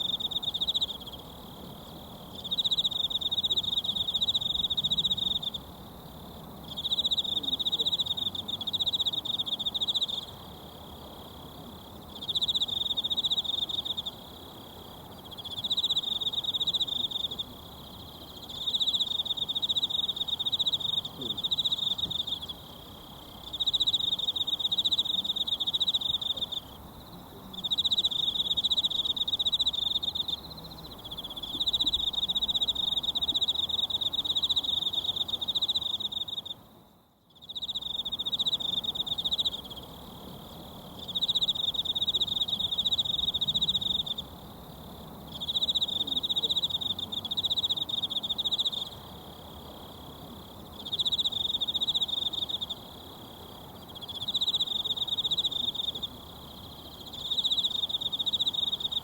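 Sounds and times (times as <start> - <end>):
cricket-like insect trilling: 0.0 - 36.6, 37.3 - 59.0.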